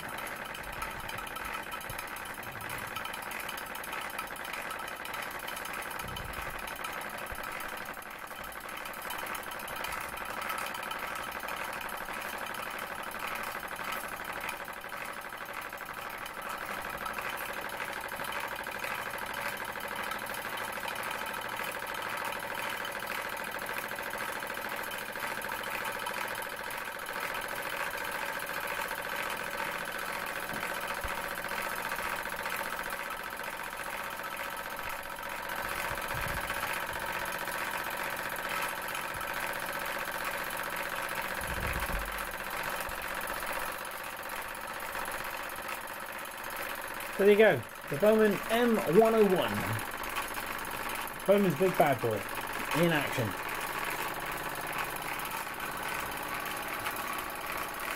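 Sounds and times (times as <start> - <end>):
steam engine running: 0.0 - 57.9.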